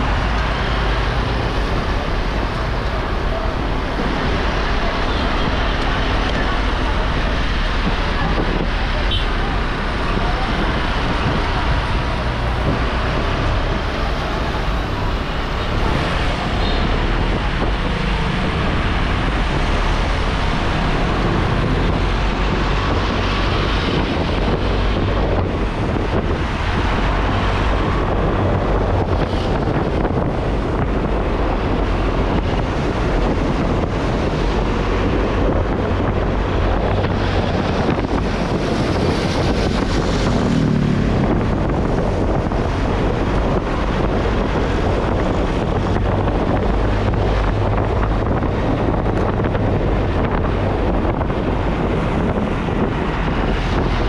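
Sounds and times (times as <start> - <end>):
tyres rushing on road: 0.0 - 54.0
wind buffeting microphone: 0.0 - 54.0.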